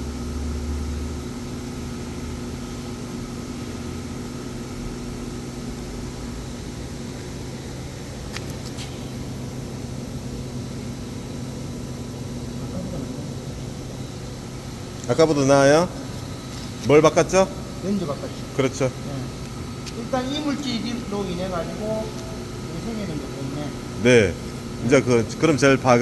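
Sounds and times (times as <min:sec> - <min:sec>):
laser welder humming: 0:00.0 - 0:26.0.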